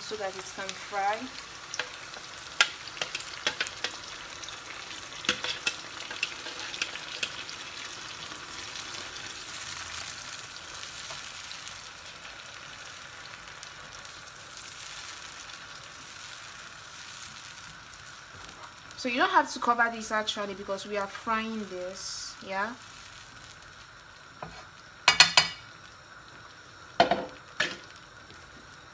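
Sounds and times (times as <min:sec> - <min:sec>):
sauce sizzling in a pan: 0:00.0 - 0:28.9.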